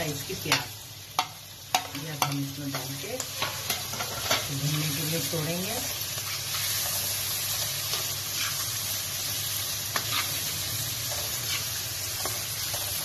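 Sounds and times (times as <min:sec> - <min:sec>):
minced meat sizzling in wok: 0:00.0 - 0:13.0.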